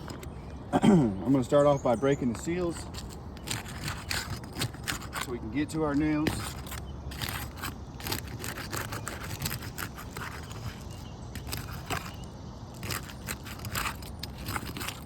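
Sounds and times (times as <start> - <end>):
shingle seal crackling and scraping: 0.0 - 15.0.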